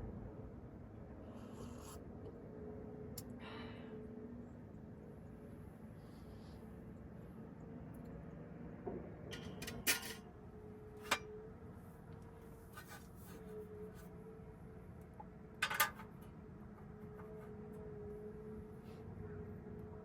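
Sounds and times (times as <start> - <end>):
low hum with wavering tone: 0.0 - 20.0.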